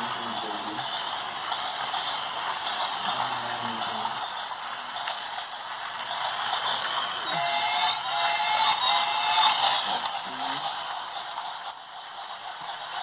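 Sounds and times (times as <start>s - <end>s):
toy locomotive motor running: 0.0s - 13.0s.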